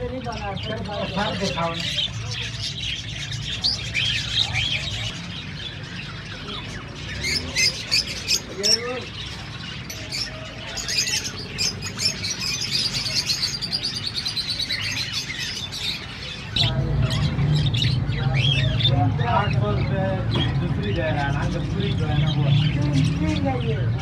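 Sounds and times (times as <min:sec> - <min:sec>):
lovebirds chirping and squawking: 0:00.0 - 0:24.0.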